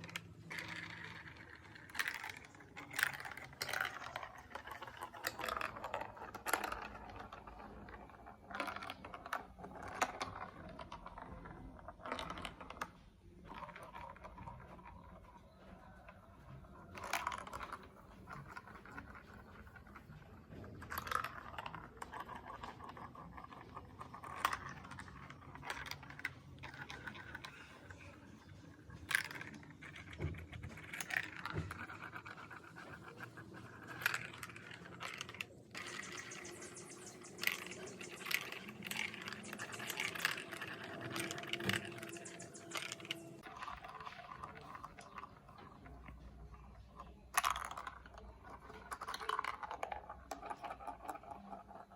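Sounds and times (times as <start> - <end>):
plastic pieces clicking and rattling: 0.0 - 12.9, 16.9 - 51.9.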